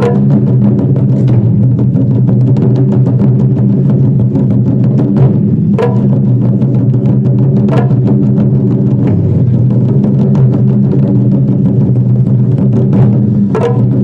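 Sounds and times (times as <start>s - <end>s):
drums in fast rhythm: 0.0s - 14.0s.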